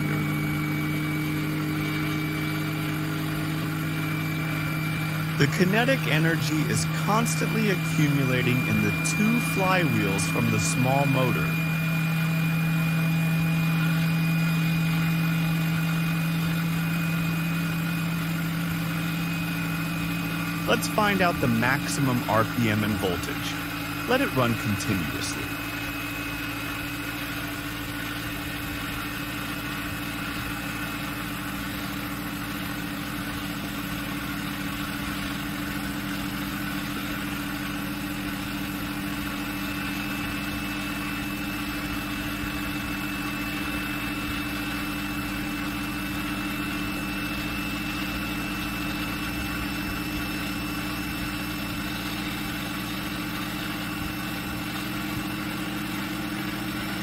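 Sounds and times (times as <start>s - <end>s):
electric motor hum and whine: 0.0s - 57.0s.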